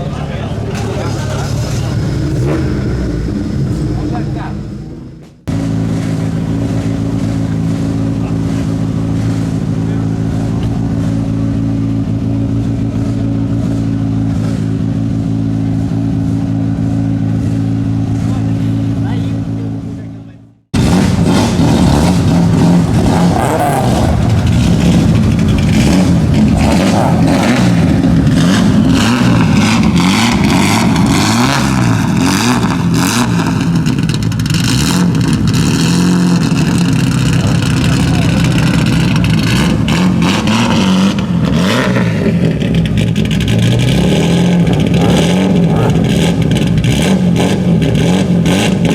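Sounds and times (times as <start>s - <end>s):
car engine running steadily: 0.0s - 48.9s.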